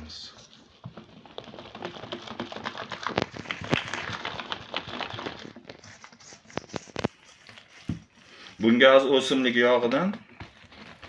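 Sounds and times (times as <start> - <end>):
batter squelching as stirred: 0.0 - 9.5.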